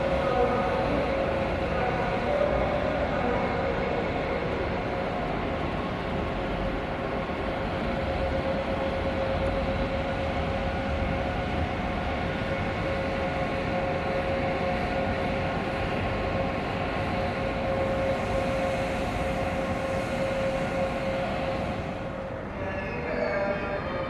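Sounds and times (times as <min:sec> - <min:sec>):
electric train whine: 0:00.0 - 0:24.0.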